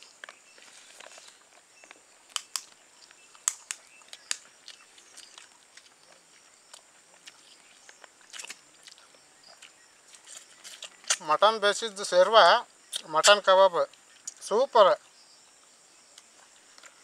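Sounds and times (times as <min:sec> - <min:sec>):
faint crunchy chewing: 0:00.0 - 0:11.4, 0:12.9 - 0:14.5, 0:15.5 - 0:17.0.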